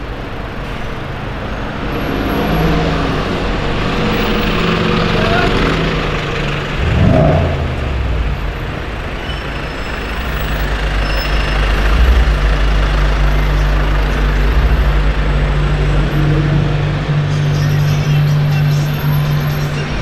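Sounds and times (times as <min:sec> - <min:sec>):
cars passing close by: 0:00.0 - 0:20.0
low engine drone: 0:01.0 - 0:20.0.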